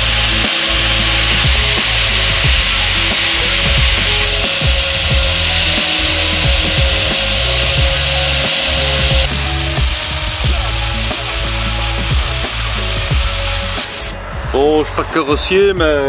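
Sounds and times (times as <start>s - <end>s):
angle grinder grinding steel: 0.0s - 14.2s
background music with bass beat: 0.0s - 16.0s.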